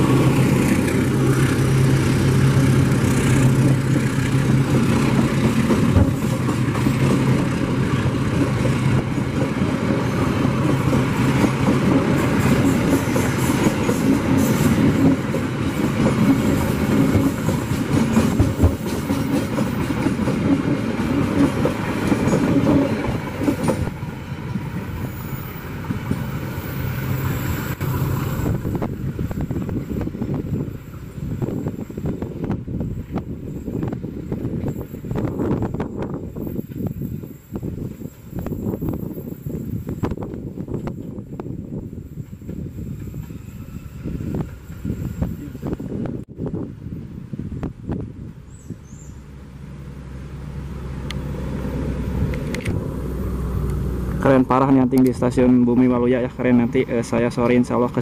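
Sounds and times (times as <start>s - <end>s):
locomotive engine drone: 0.0s - 58.0s
train wheels rumbling: 0.0s - 58.0s.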